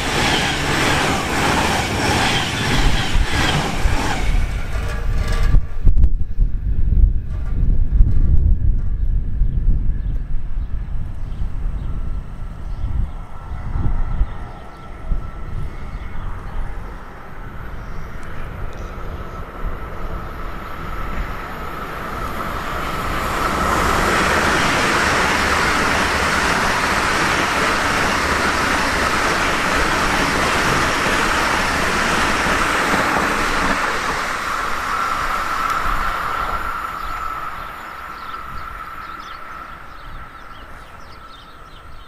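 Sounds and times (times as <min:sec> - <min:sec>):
high-speed train passing: 0:00.0 - 0:42.0.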